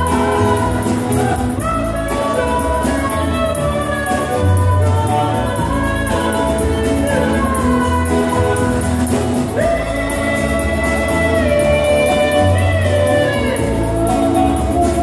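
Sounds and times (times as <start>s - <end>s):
country band playing: 0.0s - 15.0s.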